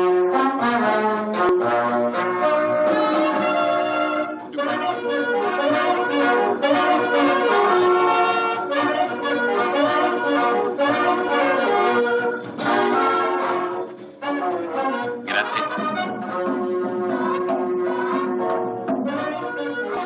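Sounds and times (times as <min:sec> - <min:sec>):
dance band brass music: 0:00.0 - 0:20.0.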